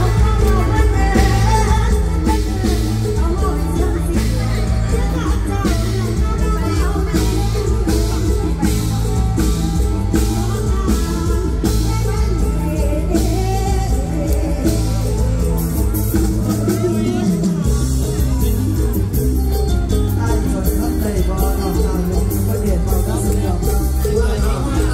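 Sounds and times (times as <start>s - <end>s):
heavy bass: 0.0s - 24.9s
live band music over loudspeakers: 0.0s - 24.9s
person singing: 0.0s - 24.9s
steady drum beat: 0.0s - 24.9s.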